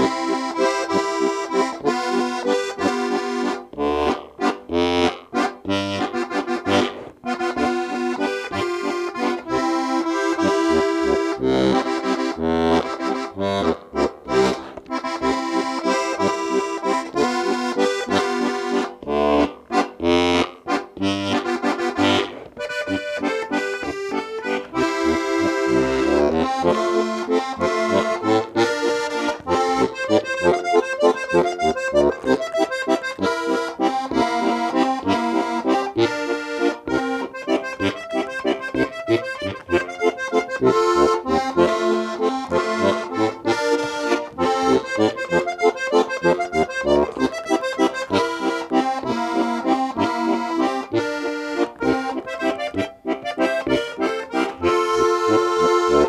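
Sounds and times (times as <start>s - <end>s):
brisk instrumental music: 0.0s - 56.0s.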